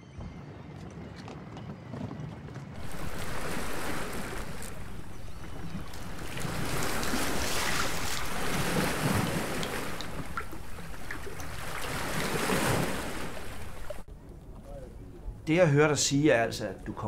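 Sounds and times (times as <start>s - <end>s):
wind buffeting microphone: 0.0s - 15.6s
small waves lapping at pier: 0.3s - 17.0s.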